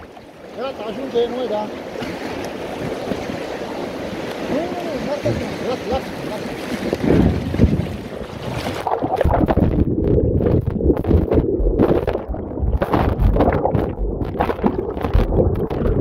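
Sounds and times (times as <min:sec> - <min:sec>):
muffled underwater river gurgling: 0:00.0 - 0:16.0
water splashing: 0:00.0 - 0:16.0.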